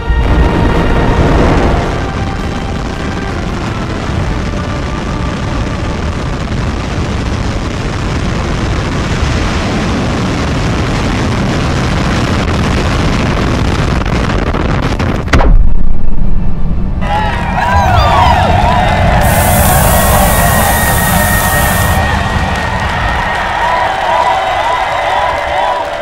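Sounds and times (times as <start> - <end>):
rocket engines firing: 0.1 - 17.0, 18.0 - 23.9.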